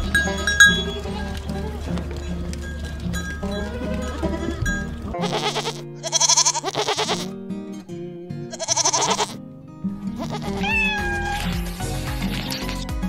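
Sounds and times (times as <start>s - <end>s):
goats bleating: 0.0s - 7.4s, 8.4s - 9.4s, 10.1s - 13.0s
background music: 0.0s - 13.0s.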